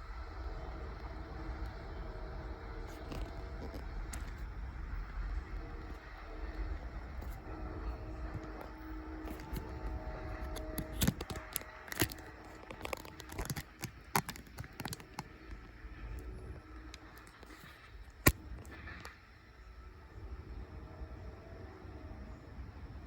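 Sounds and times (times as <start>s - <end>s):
faint steady tones: 0.0s - 23.0s
freight train rumble: 0.0s - 23.0s.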